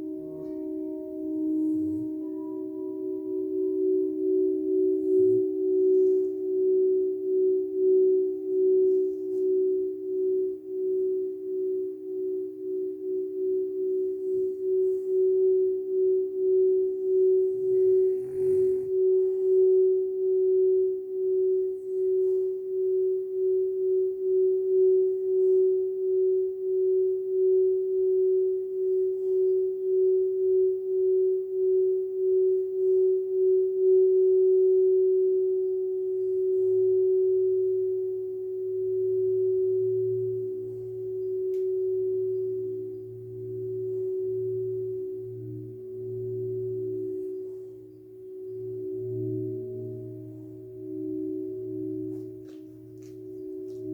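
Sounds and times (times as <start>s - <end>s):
lower deeper bowl tone: 0.0s - 53.9s
singing bowl pulsing tone: 0.0s - 53.9s.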